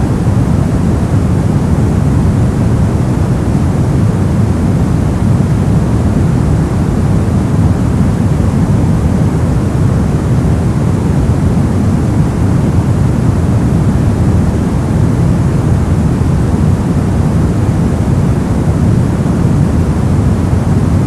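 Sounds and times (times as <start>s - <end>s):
brown noise: 0.0s - 21.0s.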